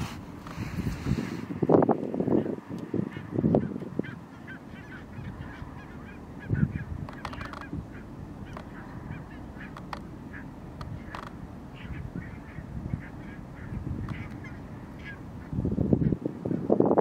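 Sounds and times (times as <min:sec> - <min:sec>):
low rumbles: 0:00.0 - 0:17.0
geese honking: 0:02.2 - 0:16.7.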